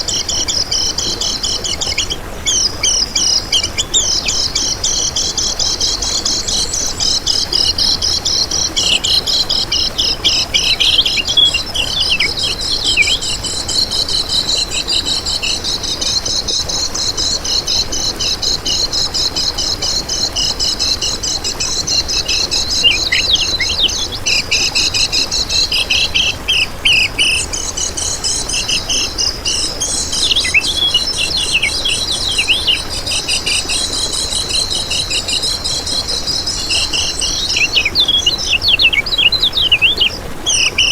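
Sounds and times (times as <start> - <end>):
bird twittering chatter: 0.0 - 40.9.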